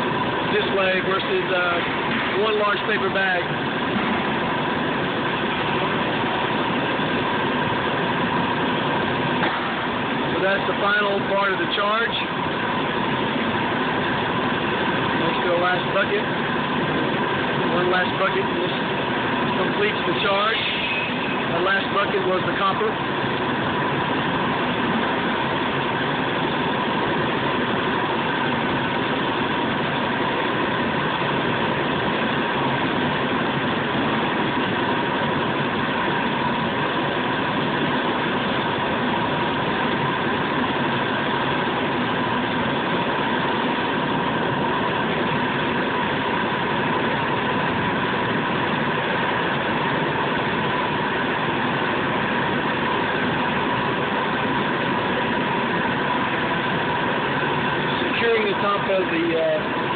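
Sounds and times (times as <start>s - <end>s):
machinery drone with whine: 0.0s - 59.9s.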